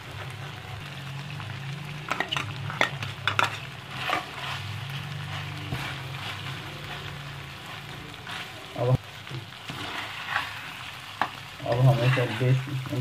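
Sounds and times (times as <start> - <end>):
meat sizzling in a pan: 0.0 - 13.0
metal spoon scraping a pan: 2.1 - 13.0.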